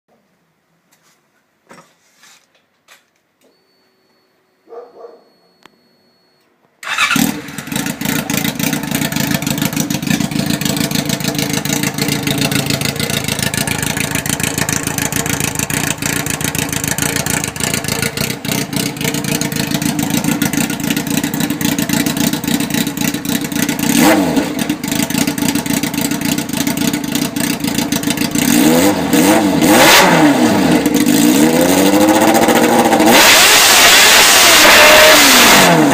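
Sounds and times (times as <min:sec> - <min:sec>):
motorcycle engine revving: 0:06.8 - 0:35.9.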